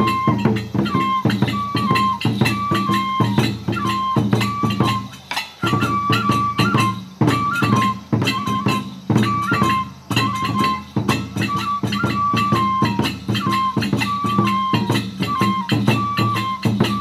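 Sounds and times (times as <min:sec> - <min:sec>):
bamboo flute melody: 0:00.0 - 0:17.0
drum strikes: 0:00.0 - 0:17.0.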